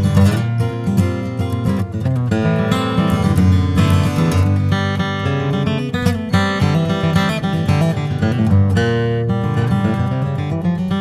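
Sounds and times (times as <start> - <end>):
flatpicked acoustic guitar: 0.0 - 11.0.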